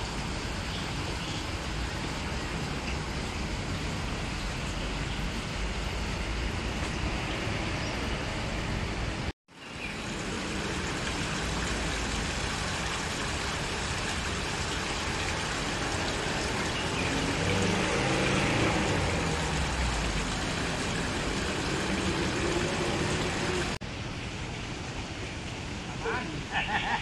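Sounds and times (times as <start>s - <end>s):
road traffic noise: 0.0s - 27.0s
water rushing in a stream: 0.0s - 27.0s.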